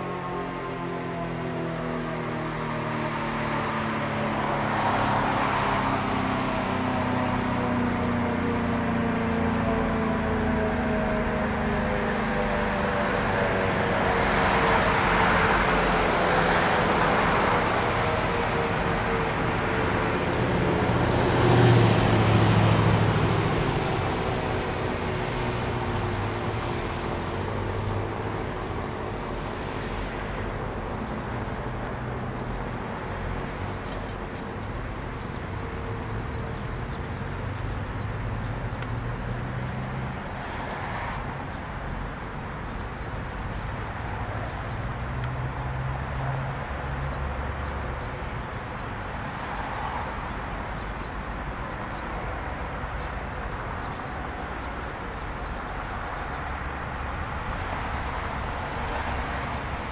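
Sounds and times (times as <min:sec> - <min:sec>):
traffic rumble: 0:00.0 - 0:59.9.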